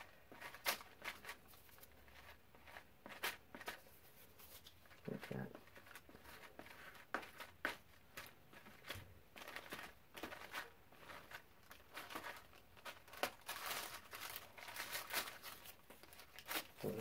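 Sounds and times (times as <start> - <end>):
paper crinkling: 0.0 - 17.0.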